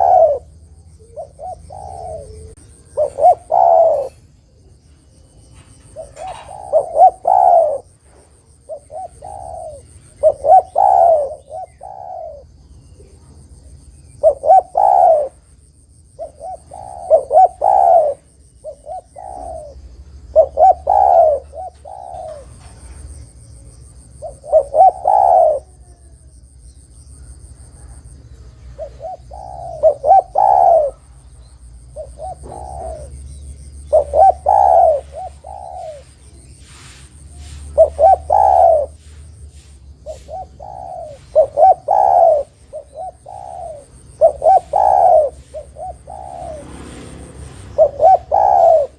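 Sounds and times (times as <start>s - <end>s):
dove cooing: 0.0s - 13.3s, 14.1s - 26.5s, 27.2s - 48.9s.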